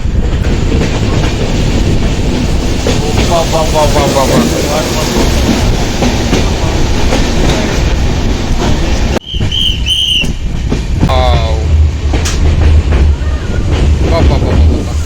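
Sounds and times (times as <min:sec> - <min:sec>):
train running on rails: 0:00.0 - 0:15.0.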